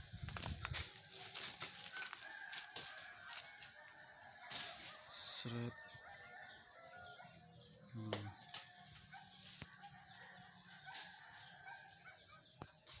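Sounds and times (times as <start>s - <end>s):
high insect chirr: 0.0s - 13.0s
faint rooster crowing: 1.0s - 13.0s.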